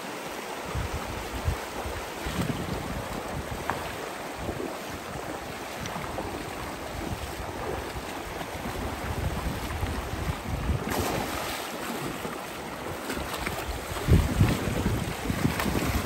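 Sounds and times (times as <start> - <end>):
stream water rushing: 0.0 - 16.0
wind buffeting microphone: 0.7 - 11.5, 12.9 - 16.0.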